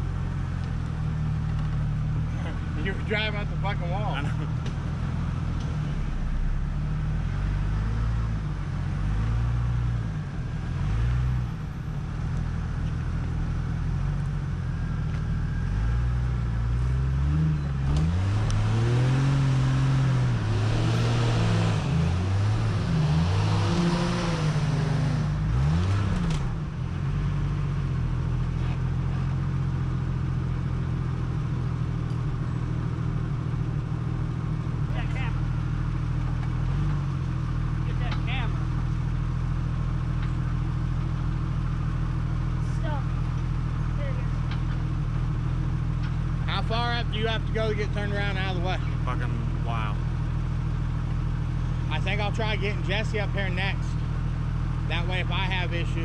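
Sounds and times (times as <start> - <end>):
engine running and revving: 0.0 - 56.0.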